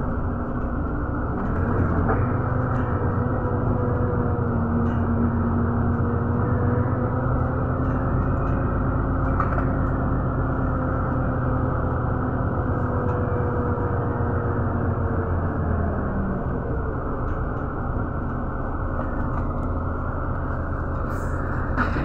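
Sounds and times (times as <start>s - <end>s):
vehicle low rumble: 0.0s - 22.0s.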